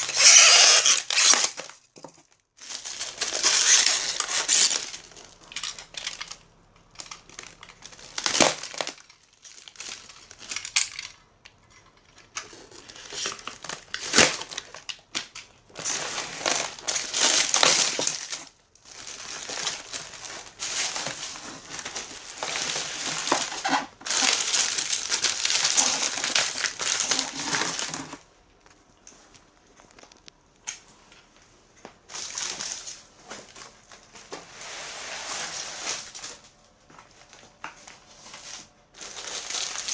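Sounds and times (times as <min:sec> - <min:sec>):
packaging crinkling: 0:00.0 - 0:30.8, 0:37.1 - 0:39.9.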